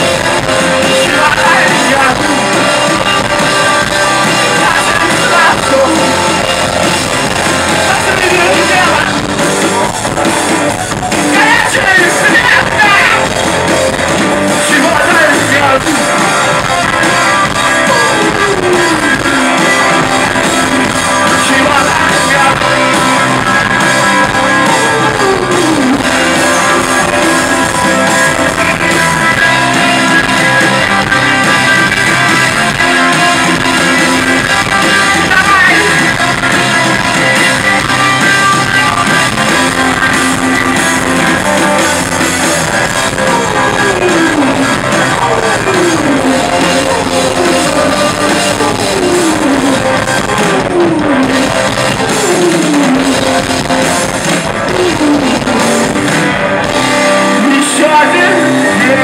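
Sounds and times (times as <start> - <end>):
person singing: 0.0 - 13.6, 14.5 - 59.0
bass guitar: 0.0 - 59.0
drums: 0.0 - 59.0
electric guitar: 0.0 - 59.0.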